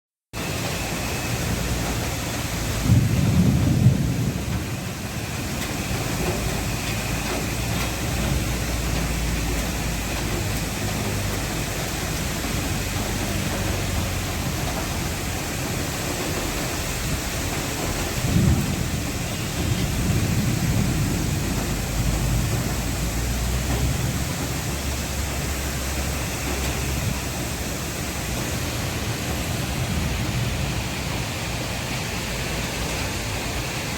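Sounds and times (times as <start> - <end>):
heavy rain: 0.3 - 33.9
thunder rumbling: 0.4 - 33.9.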